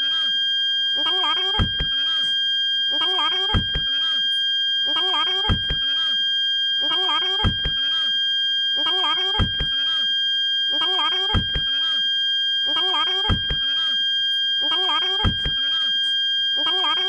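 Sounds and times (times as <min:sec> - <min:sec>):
parking sensor high tone: 0:00.0 - 0:17.0.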